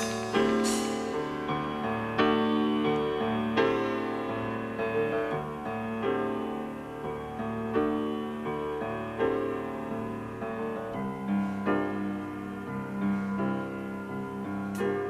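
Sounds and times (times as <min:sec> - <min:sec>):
rhythmic piano chords: 0:00.0 - 0:15.0.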